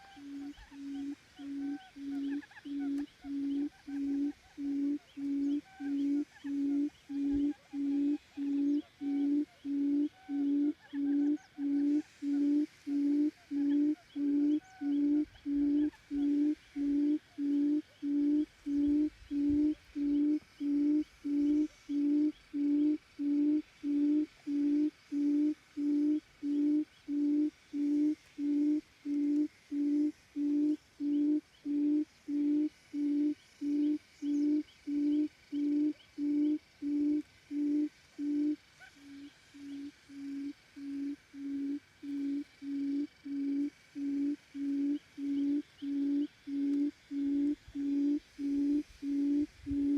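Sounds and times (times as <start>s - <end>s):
low hooting quail call: 0.0s - 49.9s.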